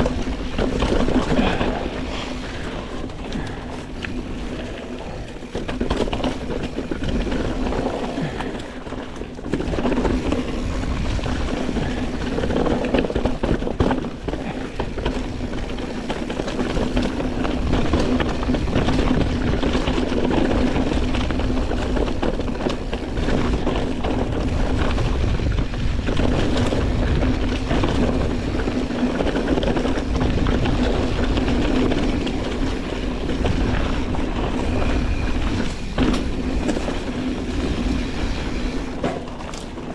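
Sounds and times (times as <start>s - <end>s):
wind buffeting microphone: 0.0s - 39.8s
bike chain and frame rattling: 0.0s - 39.9s
bike tyres rolling over dirt: 0.0s - 39.9s.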